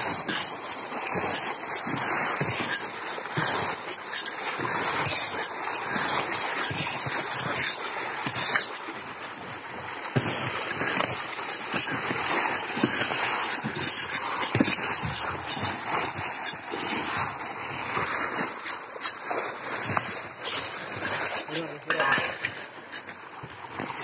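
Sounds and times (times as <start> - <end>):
fish splashing and thrashing in water: 0.0 - 24.0.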